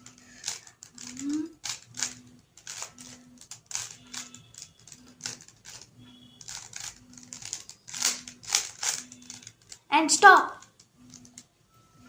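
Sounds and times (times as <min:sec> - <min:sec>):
puzzle cube plastic clicks: 0:00.0 - 0:09.9, 0:10.5 - 0:11.5.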